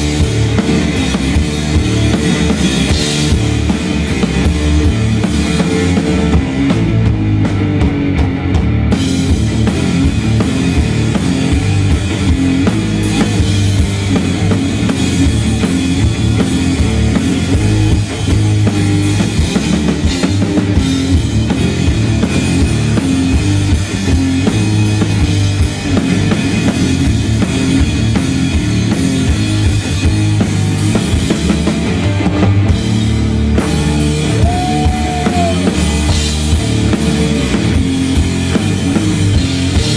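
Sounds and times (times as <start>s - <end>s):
drum kit: 0.0s - 39.9s
electric guitar: 0.0s - 39.9s
heavy bass drum: 0.0s - 39.9s.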